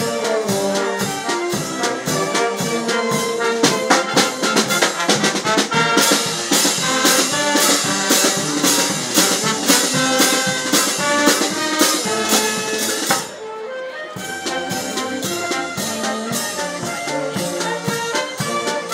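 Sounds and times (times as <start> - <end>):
brass music with drums: 0.0 - 18.9.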